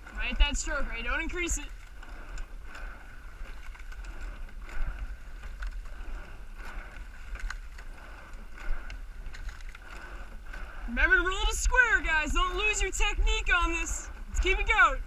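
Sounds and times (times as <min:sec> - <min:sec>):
oars clicking in oarlocks: 0:00.0 - 0:15.0
water rushing along hull: 0:00.0 - 0:15.0.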